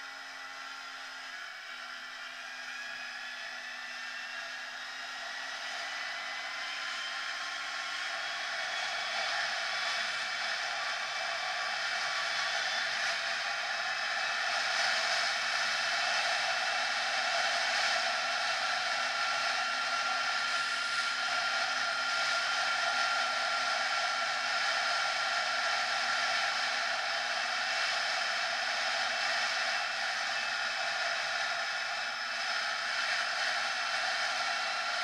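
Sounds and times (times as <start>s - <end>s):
thin whine: 0.0s - 35.0s.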